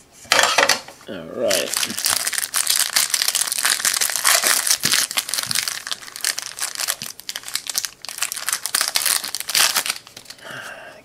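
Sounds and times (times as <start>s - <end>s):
plastic wrapper crinkling: 1.5s - 10.4s.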